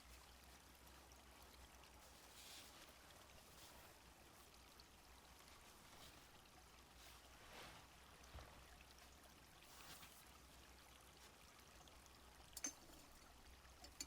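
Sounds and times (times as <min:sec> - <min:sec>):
small stream flowing: 0:00.0 - 0:14.0.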